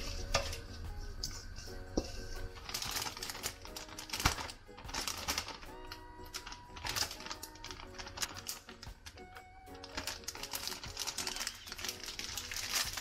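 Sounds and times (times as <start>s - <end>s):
background music: 0.0s - 13.0s
plastic bag crinkling: 2.5s - 13.0s.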